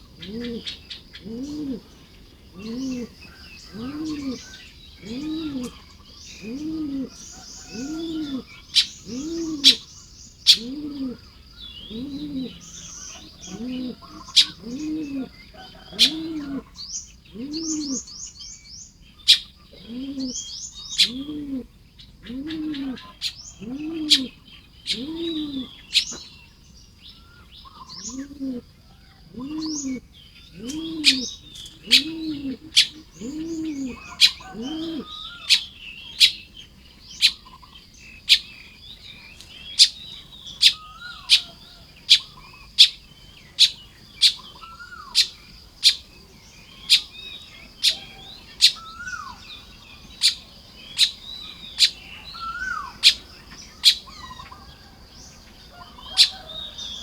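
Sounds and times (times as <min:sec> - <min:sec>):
bird deep hooting: 0:00.0 - 0:18.2, 0:19.2 - 0:26.3, 0:27.2 - 0:57.0
weaver birds chattering and chirping: 0:00.0 - 0:57.0.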